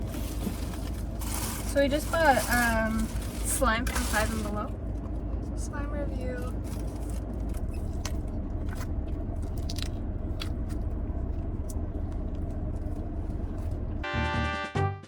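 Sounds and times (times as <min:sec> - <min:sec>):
road rumble inside car: 0:00.0 - 0:14.2.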